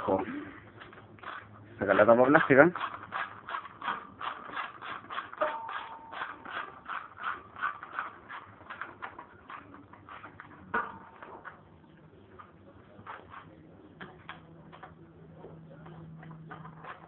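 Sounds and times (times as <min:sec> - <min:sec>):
clicking and scraping of tools on plastic: 0:00.7 - 0:11.6, 0:12.4 - 0:17.0.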